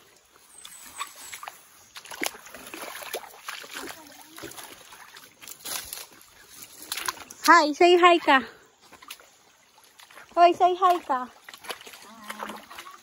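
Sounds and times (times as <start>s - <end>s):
feet splashing in a stream: 0.0s - 13.0s.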